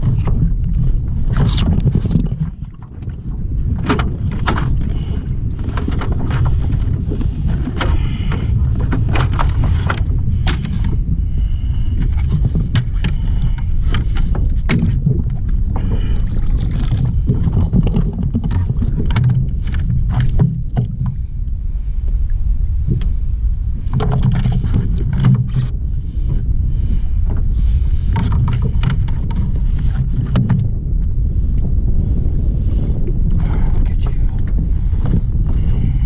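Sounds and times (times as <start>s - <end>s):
low rumble: 0.0s - 36.0s
water against kayak hull: 0.0s - 36.0s.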